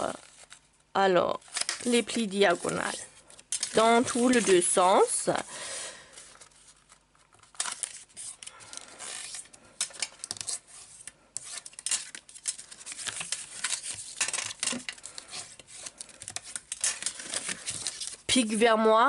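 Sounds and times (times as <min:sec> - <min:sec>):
paper rustling and scraping: 0:00.0 - 0:00.7, 0:01.4 - 0:05.4, 0:06.0 - 0:18.4.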